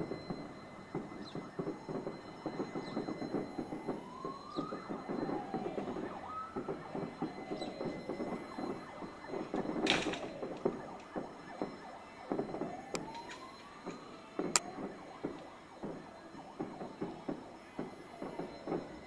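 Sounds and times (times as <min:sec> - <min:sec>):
fireworks crackling and popping: 0:00.0 - 0:19.0
fireworks whistles: 0:00.0 - 0:19.0.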